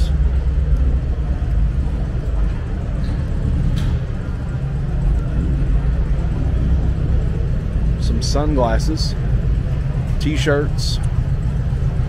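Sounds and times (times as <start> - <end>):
low rumble of exhibition hall: 0.0 - 12.0.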